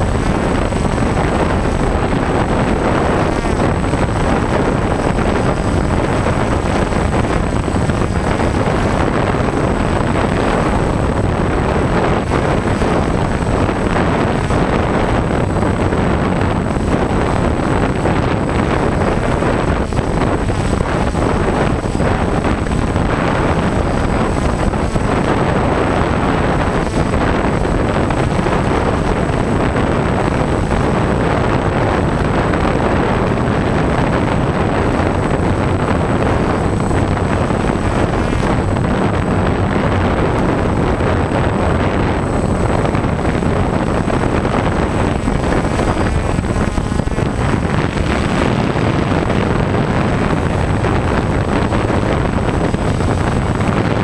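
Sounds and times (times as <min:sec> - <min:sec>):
drone motors and propellers: 0:00.0 - 0:54.0
thin high whine: 0:00.0 - 0:54.0
wind buffeting microphone: 0:00.0 - 0:54.0.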